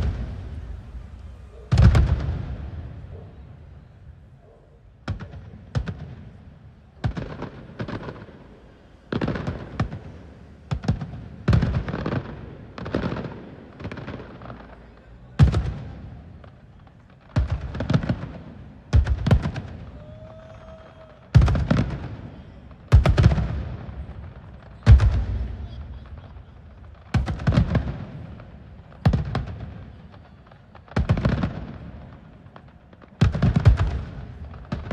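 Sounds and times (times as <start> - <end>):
fireworks booming: 0.0 - 34.9.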